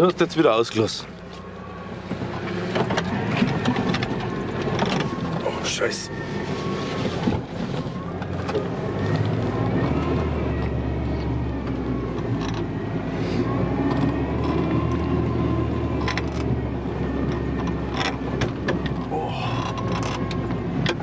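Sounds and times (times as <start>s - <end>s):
vehicle clattering: 0.0s - 12.8s, 16.0s - 21.0s
vehicle engine hum: 0.0s - 21.0s.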